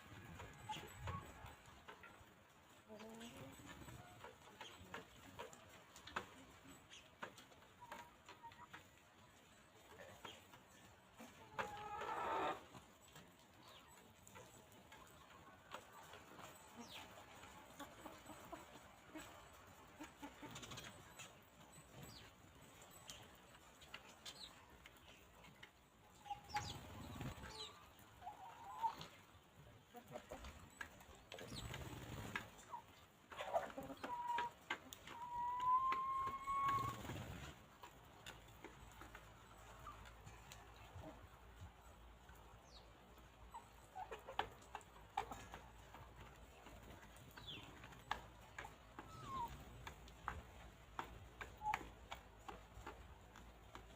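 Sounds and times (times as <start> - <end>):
chickens pecking ground: 0.0 - 53.9
small birds chirping: 0.0 - 53.9.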